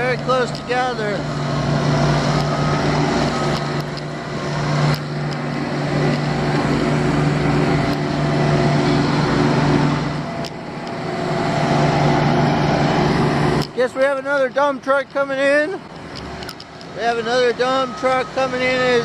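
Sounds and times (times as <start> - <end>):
heavy diesel engines rumbling: 0.0 - 19.0.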